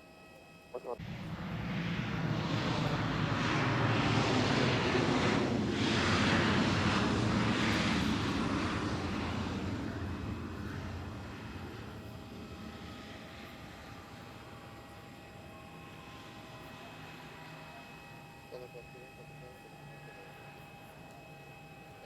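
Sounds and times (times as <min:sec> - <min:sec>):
jet engines roaring: 0:00.8 - 0:22.0.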